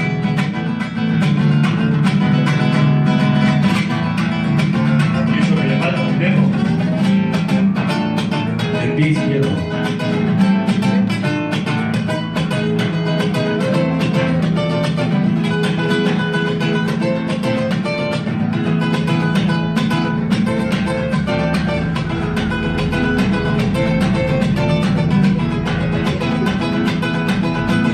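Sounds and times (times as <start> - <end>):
strummed guitars: 0.0 - 27.9
mariachi ensemble playing: 4.4 - 11.8, 12.4 - 27.9.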